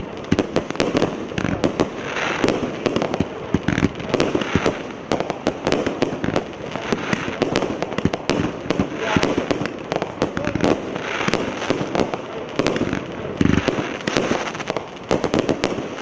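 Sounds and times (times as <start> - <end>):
firework bangs: 0.0 - 16.0
firework hiss and crackle: 0.0 - 16.0.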